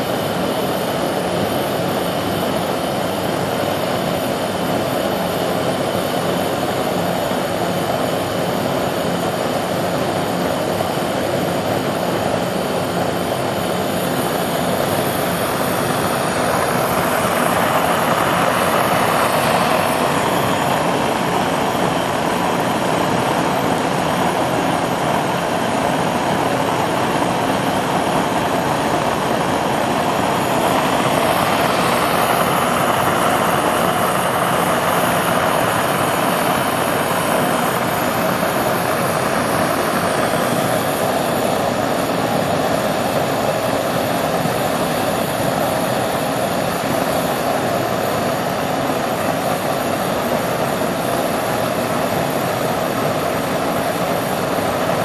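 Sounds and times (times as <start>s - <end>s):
gas burner flame rushing: 0.0s - 55.0s.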